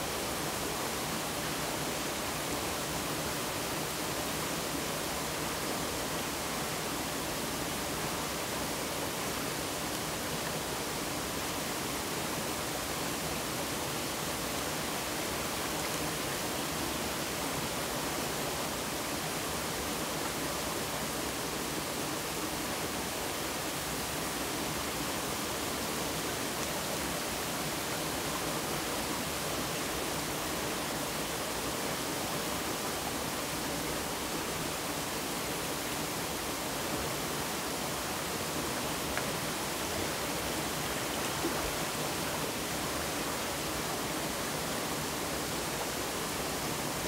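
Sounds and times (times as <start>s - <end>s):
stream water rushing: 0.0s - 47.0s.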